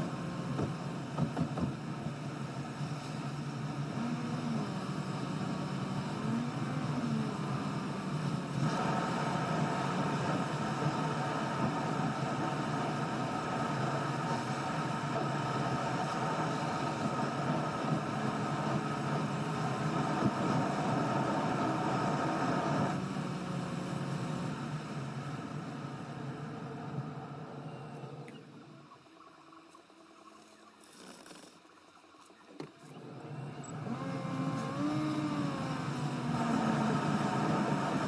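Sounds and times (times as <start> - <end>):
road and engine noise: 0.0 - 28.8, 32.6 - 38.0.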